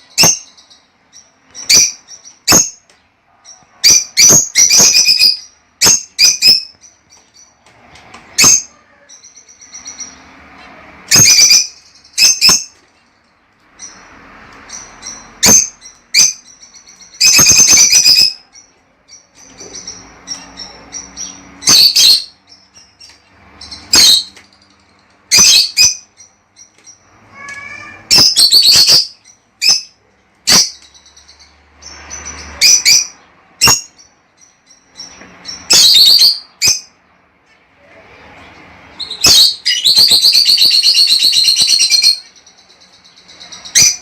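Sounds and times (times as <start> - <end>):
shrill bird chirps: 0.0 - 7.6, 8.3 - 37.0, 38.9 - 44.0.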